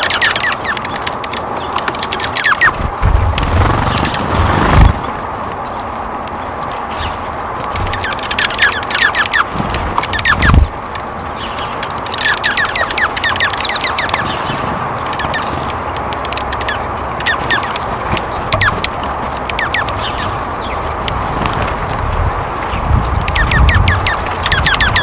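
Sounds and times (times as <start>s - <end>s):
small birds chirping: 0.0s - 25.0s
steady background noise: 0.0s - 25.0s.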